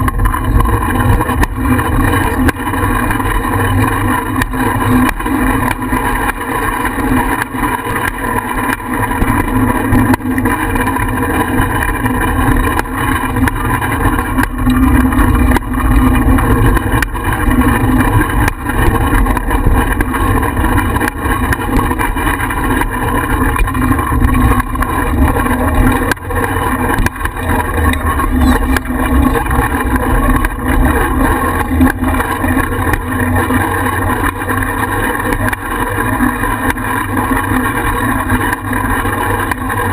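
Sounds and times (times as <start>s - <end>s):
small clicks and rattles: 0.0s - 39.9s.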